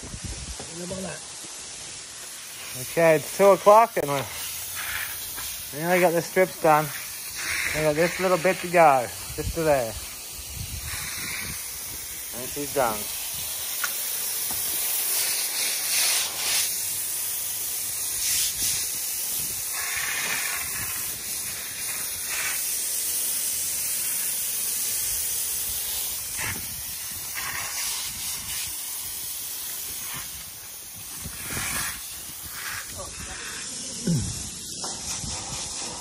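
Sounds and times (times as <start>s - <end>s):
water spraying from hose: 0.0s - 36.0s.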